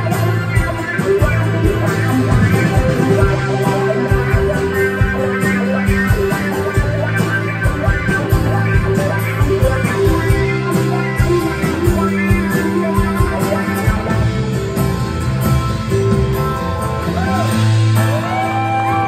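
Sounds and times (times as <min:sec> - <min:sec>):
bass guitar: 0:00.0 - 0:19.0
electric guitar: 0:00.0 - 0:19.0
steady drum beat: 0:00.0 - 0:19.0.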